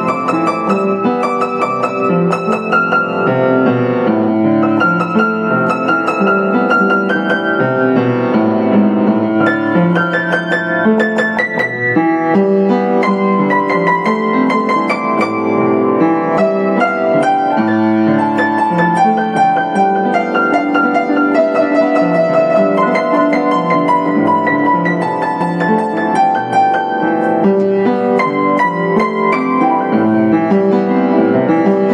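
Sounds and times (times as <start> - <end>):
upright piano playing: 0.0 - 31.9.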